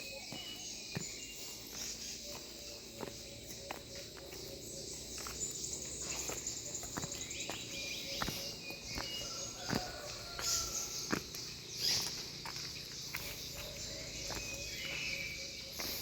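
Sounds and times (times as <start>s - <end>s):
footsteps: 0.0s - 16.0s.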